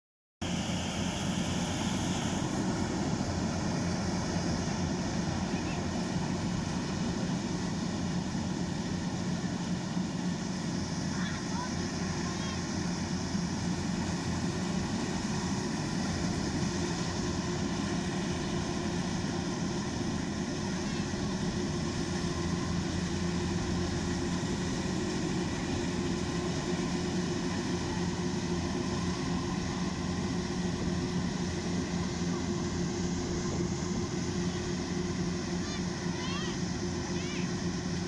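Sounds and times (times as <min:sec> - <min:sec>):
combine harvester running: 0:00.4 - 0:38.0.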